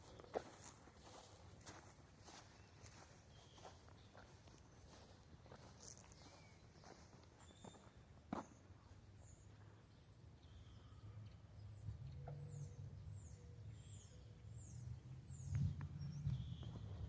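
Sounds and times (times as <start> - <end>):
small bird chirping: 2.2 - 17.0.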